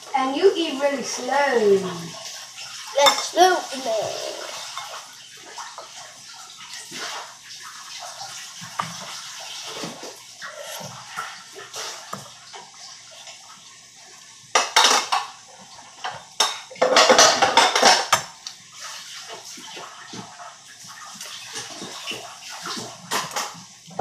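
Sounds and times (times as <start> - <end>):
utensils clinking and scraping bowl: 0.6 - 5.9, 6.5 - 12.5, 14.5 - 23.7.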